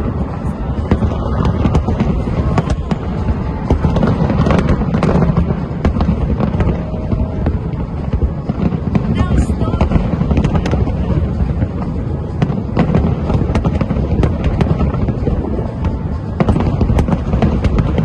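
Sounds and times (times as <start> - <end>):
rumble of booming fireworks: 0.0 - 18.0
sharp firework bangs and crackles: 0.0 - 18.0.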